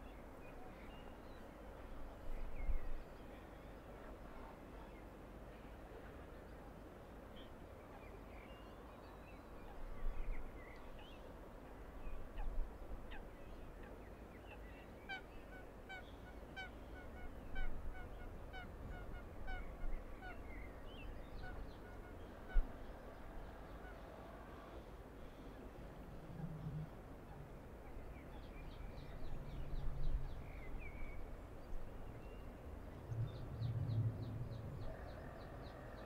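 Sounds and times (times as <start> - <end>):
low background noise: 0.0 - 36.0.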